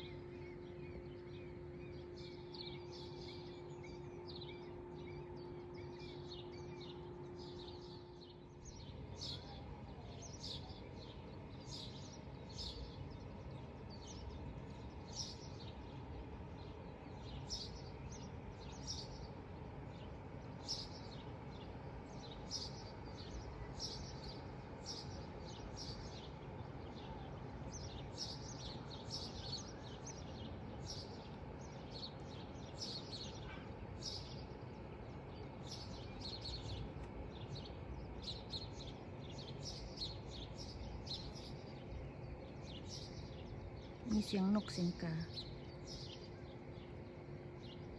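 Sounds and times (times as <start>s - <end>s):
low background hum: 0.0s - 47.9s
small birds chirping: 0.0s - 47.9s.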